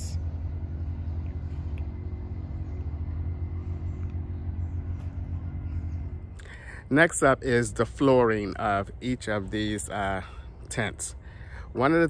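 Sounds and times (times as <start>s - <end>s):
faint steady tones: 0.0s - 12.0s
low mechanical hum: 0.0s - 12.0s.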